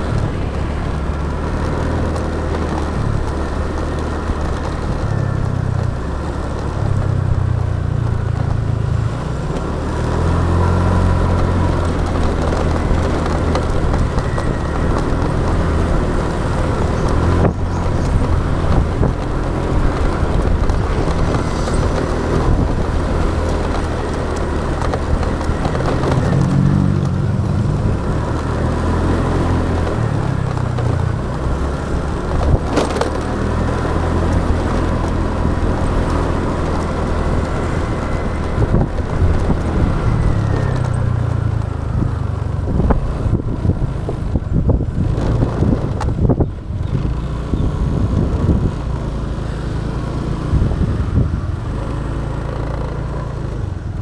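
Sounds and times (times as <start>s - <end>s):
motorcycle engine: 0.0s - 54.0s
passing traffic: 0.0s - 54.0s
road noise: 0.0s - 54.0s.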